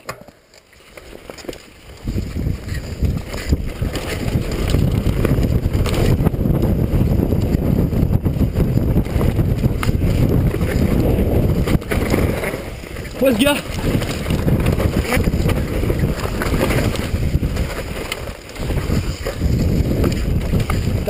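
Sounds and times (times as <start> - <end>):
bike clattering over bumps: 0.0 - 21.0
bike tyre noise: 0.0 - 21.0
wind buffeting microphone: 1.9 - 21.0.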